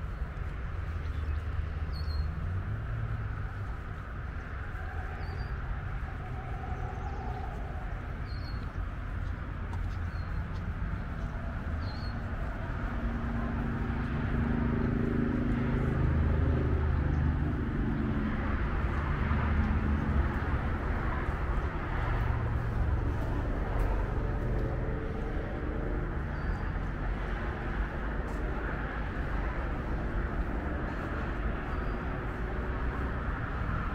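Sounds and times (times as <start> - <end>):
low rumble of road traffic: 0.0 - 33.9.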